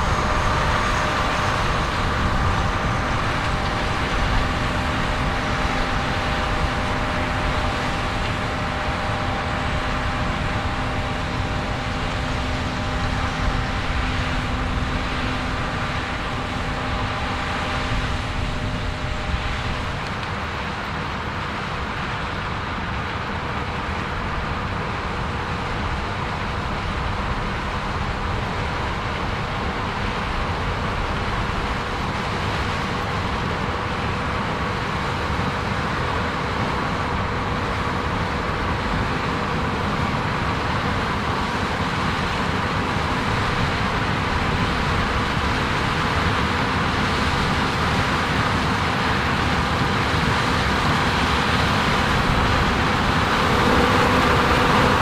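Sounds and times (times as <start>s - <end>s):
combine harvester running: 0.0s - 55.0s
faint constant whine: 0.0s - 55.0s.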